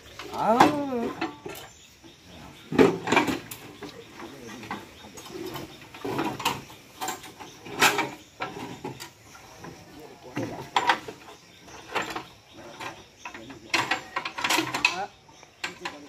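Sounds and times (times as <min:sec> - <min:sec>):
metal clanks and rattles: 0:00.0 - 0:16.0.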